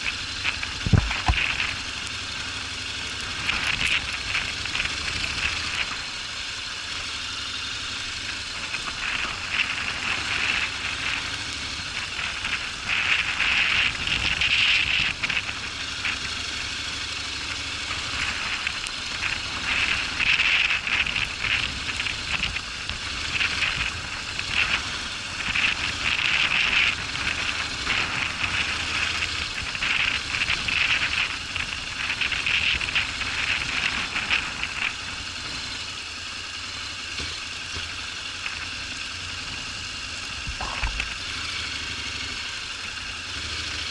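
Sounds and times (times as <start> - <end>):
motorcycle engine rumble: 0.0 - 43.9
tyres crackling over loose stones: 0.0 - 43.9.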